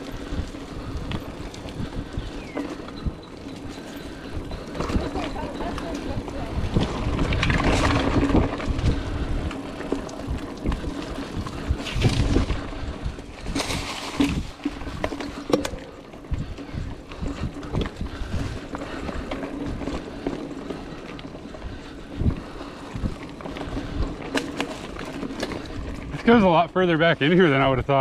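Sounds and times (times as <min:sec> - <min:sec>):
bike knocking and rattling: 0:00.0 - 0:28.0
bike tyres on dirt trail: 0:00.0 - 0:28.0.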